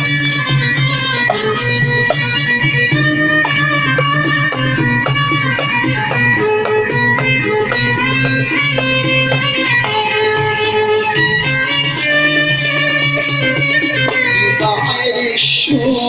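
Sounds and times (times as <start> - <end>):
low accompaniment: 0.0 - 16.0
plucked string instrument melody: 0.0 - 16.0.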